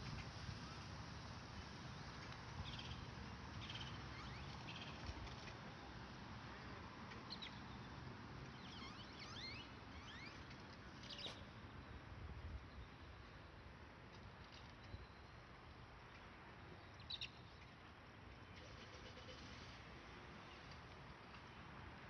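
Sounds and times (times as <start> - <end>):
steady low background noise: 0.0 - 22.0.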